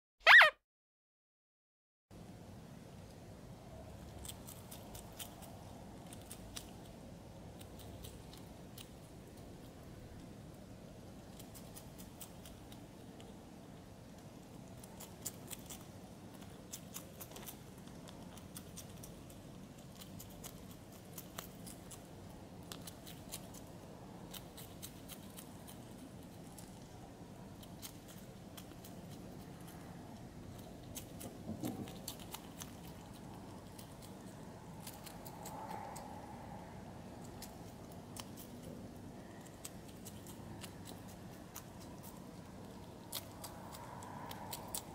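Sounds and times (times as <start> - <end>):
hedgehog chewing crunching: 3.9 - 44.9.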